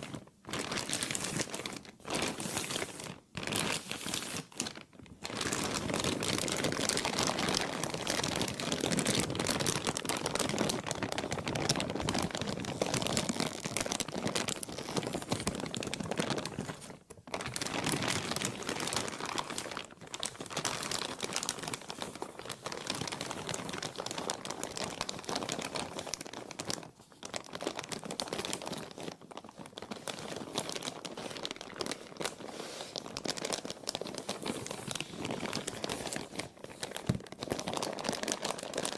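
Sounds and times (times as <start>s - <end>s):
plastic crumpling and crinkling: 0.0s - 38.9s.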